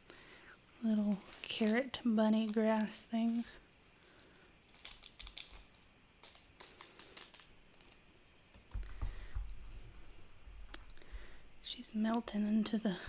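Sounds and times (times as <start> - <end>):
light clicks of sprinkles: 0.0 - 11.1.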